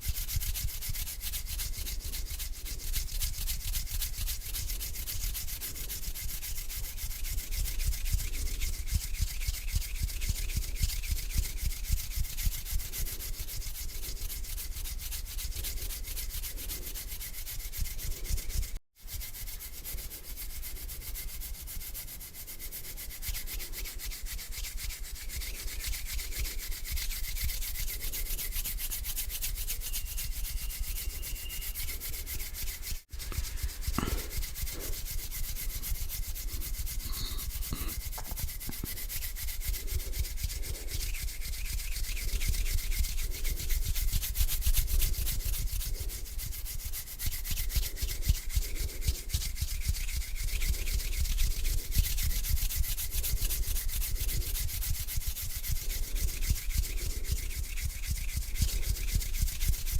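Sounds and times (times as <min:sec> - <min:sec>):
hands rubbing together: 0:00.0 - 0:59.9.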